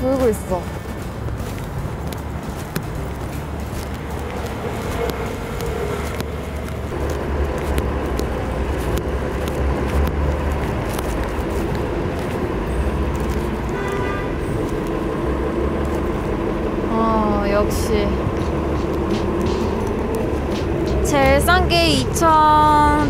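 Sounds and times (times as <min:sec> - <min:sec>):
cars going by: 0:00.0 - 0:23.0
low traffic rumble: 0:00.0 - 0:23.0.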